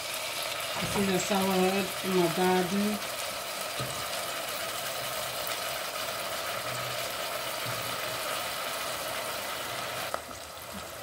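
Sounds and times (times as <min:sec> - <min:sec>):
oil sizzling in a pot: 0:00.0 - 0:11.0.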